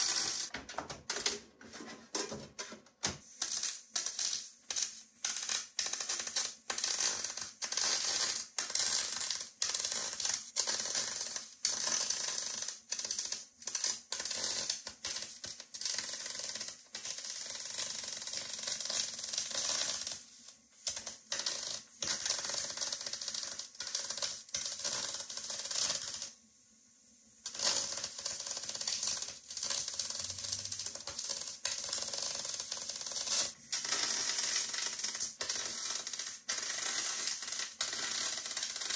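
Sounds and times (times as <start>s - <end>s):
welding arc crackling hiss: 0.0s - 0.5s, 3.1s - 26.4s, 27.4s - 38.9s.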